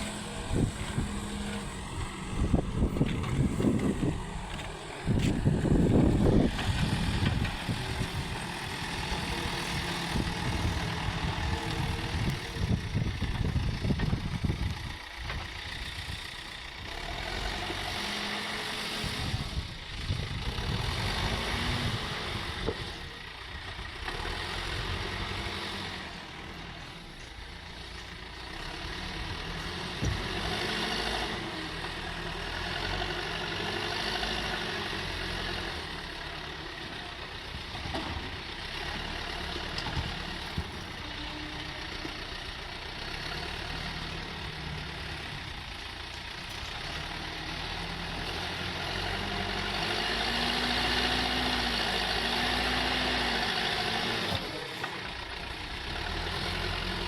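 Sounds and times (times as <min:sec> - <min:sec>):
diesel engine working: 0:00.0 - 0:57.0.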